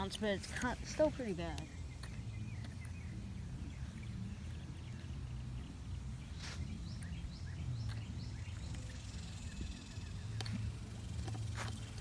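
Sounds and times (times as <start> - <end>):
faint rising bird chirps: 1.2 - 12.0
low rumble on microphone: 1.6 - 12.0.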